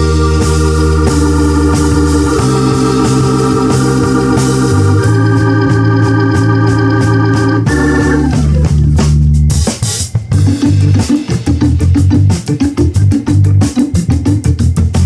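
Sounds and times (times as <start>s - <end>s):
light steady beat: 0.0s - 15.0s
sustained organ chords: 0.0s - 15.0s.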